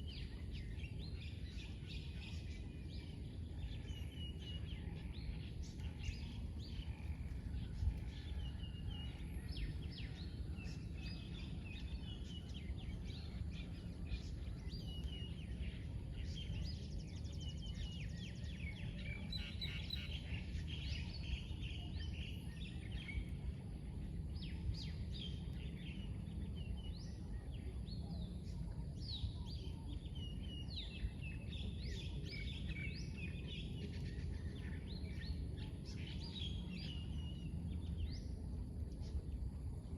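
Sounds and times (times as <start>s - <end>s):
birds chirping and trilling: 0.0s - 23.2s, 24.2s - 39.2s
low background rumble: 0.0s - 39.9s.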